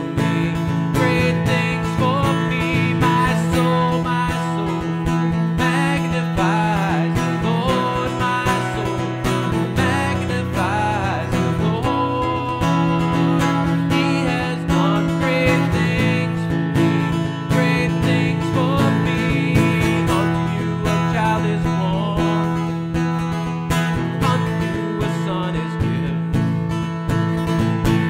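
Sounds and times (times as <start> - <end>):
acoustic guitar: 0.0 - 28.0.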